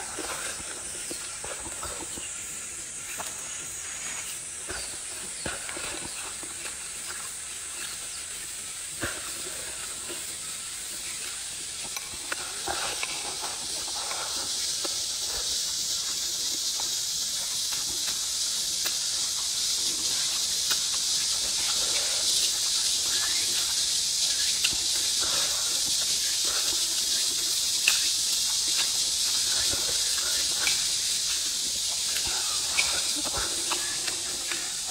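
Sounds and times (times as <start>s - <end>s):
eating and chewing sounds: 0.0s - 34.9s
high-pitched hiss: 0.0s - 34.9s.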